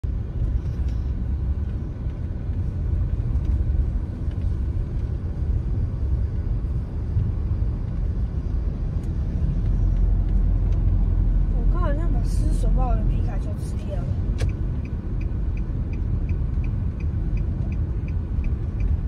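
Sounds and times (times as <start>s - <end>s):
car interior road and engine noise: 0.0s - 19.0s.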